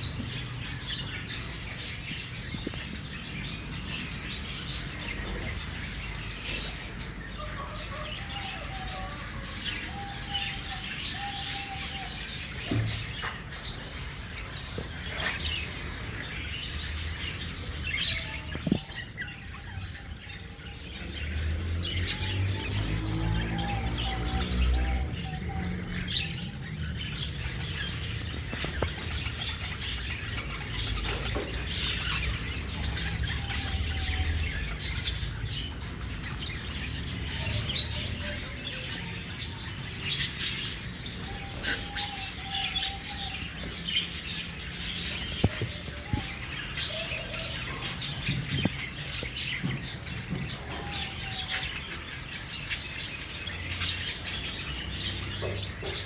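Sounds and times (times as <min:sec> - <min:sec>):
budgerigars chirping: 0:00.0 - 0:56.0.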